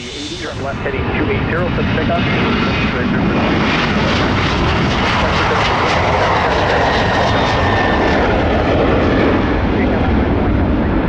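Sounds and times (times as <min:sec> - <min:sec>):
jet engines at takeoff power: 0:00.0 - 0:11.0.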